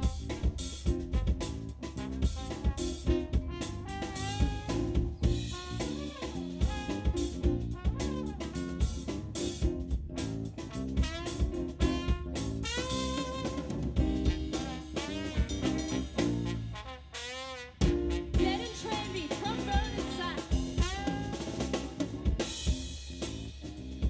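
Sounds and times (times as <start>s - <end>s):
horn section melody: 0.0s - 22.8s
drum kit groove: 0.0s - 24.0s.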